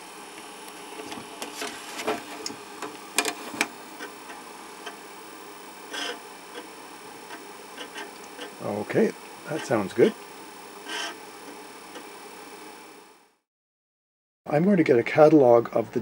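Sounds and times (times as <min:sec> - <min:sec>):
floppy disk drive running: 0:00.0 - 0:13.4.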